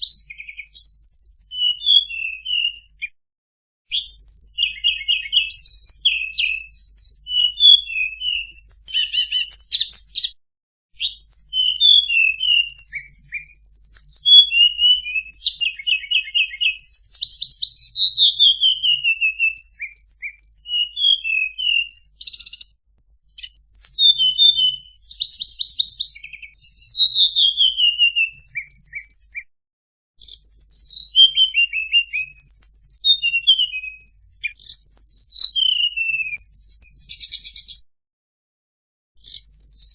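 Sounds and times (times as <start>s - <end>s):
bird singing rapid trills: 3.9s - 10.3s, 11.0s - 22.7s, 23.4s - 29.4s, 30.2s - 37.8s, 39.2s - 39.9s.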